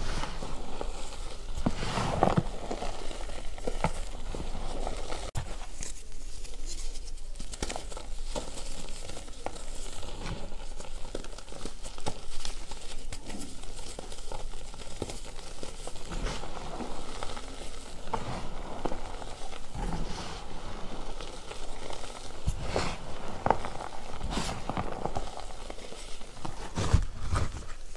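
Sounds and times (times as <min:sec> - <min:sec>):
chalk crunching and crackling: 0:00.0 - 0:27.9
chalk powder pattering: 0:00.0 - 0:27.9.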